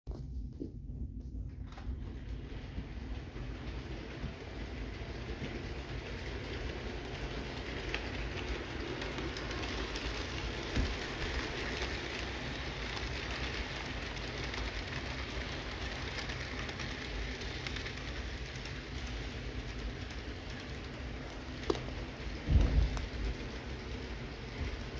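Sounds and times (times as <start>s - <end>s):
model train motor and wheels whirring: 1.9s - 24.9s.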